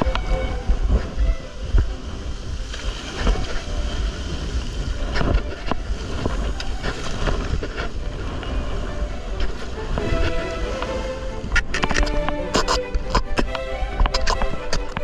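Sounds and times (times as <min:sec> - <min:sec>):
water washing: 0:00.0 - 0:15.0
wind buffeting microphone: 0:00.0 - 0:15.0.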